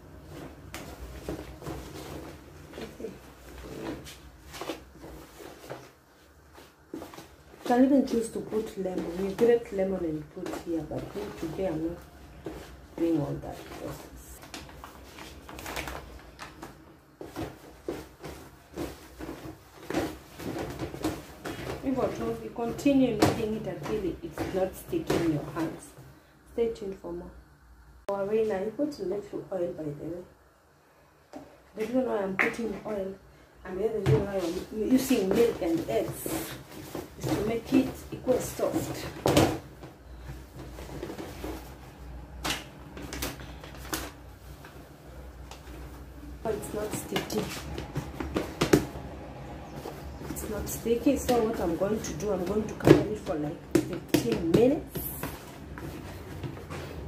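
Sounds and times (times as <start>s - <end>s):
dough kneaded by hand: 0.0s - 26.2s, 31.6s - 57.0s.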